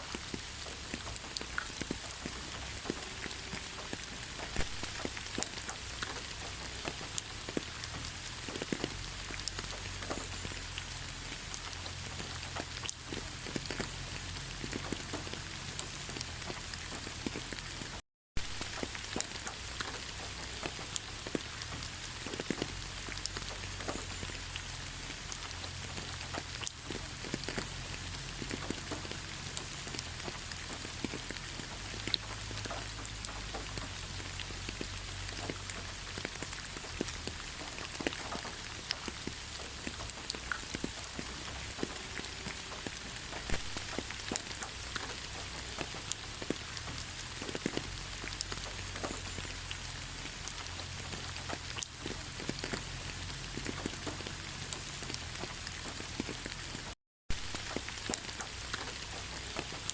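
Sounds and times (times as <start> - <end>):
raindrops ticking on a surface: 0.0 - 59.9
steady gentle rain: 0.0 - 59.9.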